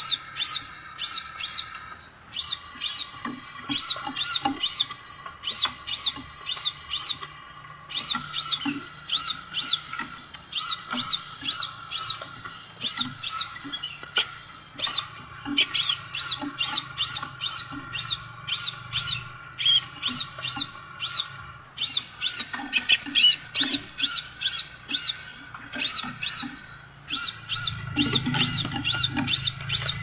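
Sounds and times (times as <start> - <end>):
bird whistling calls: 0.0 - 30.0.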